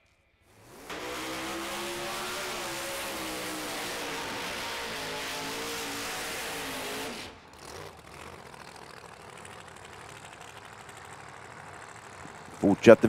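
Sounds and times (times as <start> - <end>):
racing car engine running: 0.5 - 13.0.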